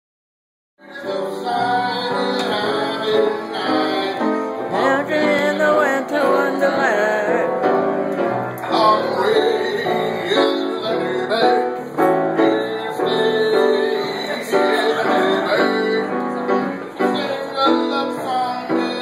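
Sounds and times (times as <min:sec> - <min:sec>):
person singing: 0:00.8 - 0:19.0
upright piano: 0:00.8 - 0:19.0.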